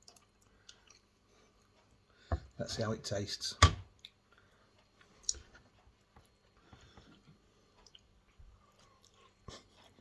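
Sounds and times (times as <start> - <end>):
faint chewing: 0.0 - 2.3, 4.0 - 10.0.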